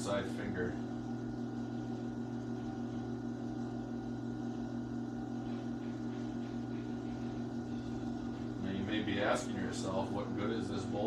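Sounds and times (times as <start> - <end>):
potter's wheel motor hum: 0.0 - 11.0.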